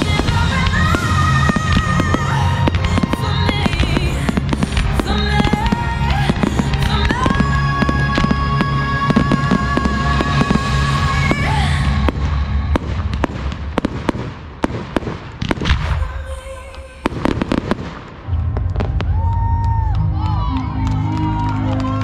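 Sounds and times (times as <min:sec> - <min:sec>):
music playing: 0:00.0 - 0:13.9, 0:18.1 - 0:22.0
firework bangs: 0:00.0 - 0:19.7.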